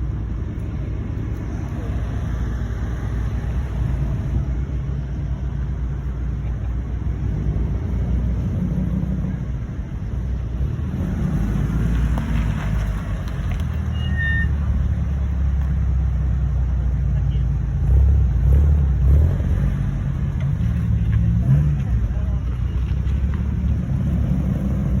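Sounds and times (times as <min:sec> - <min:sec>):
car engines rumbling: 0:00.0 - 0:25.0.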